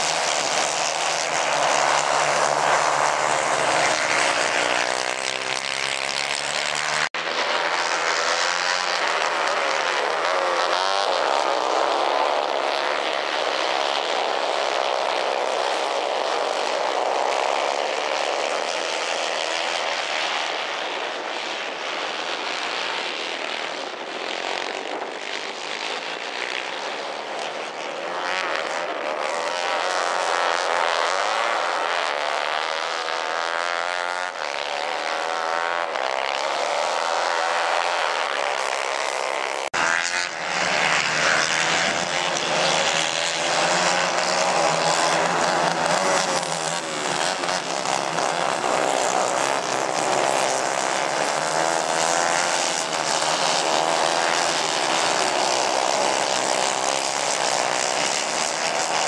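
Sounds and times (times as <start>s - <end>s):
kart engines buzzing: 0.0s - 59.0s.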